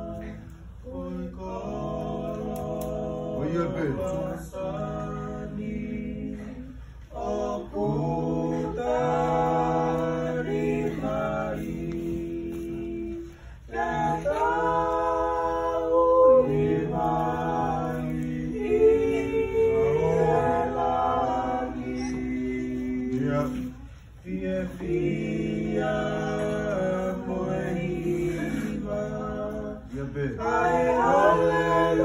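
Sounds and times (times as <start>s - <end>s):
choir singing a hymn unaccompanied: 0.0s - 32.0s.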